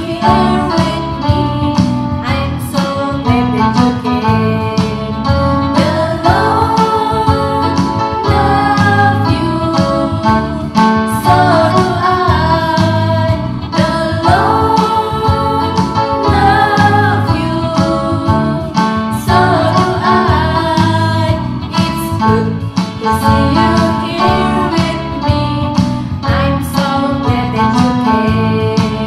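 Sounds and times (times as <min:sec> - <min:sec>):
women singing: 0:00.0 - 0:05.1, 0:05.7 - 0:25.5, 0:26.2 - 0:29.0
instrumental backing track: 0:00.0 - 0:29.0.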